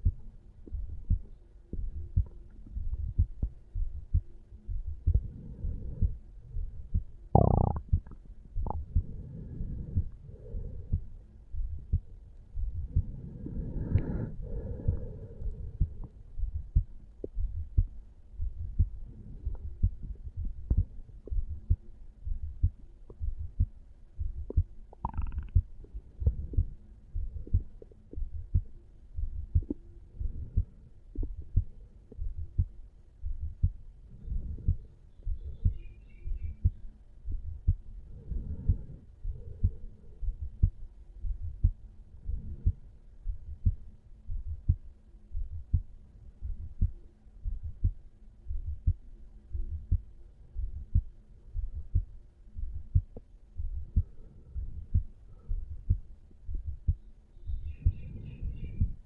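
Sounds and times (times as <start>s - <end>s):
heartbeat thumps: 0.0s - 59.0s.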